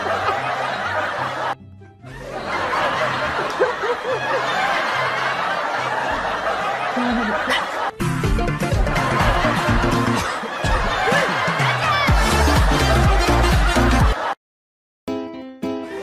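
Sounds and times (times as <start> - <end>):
people laughing: 0.0 - 14.4.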